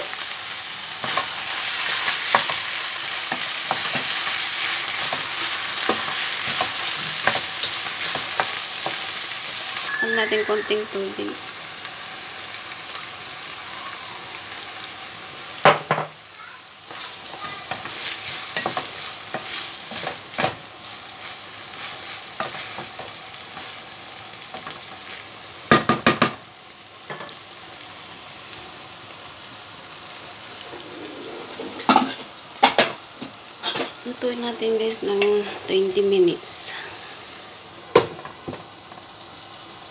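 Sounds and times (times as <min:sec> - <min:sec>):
sauce sizzling in a frying pan: 0:00.0 - 0:39.9.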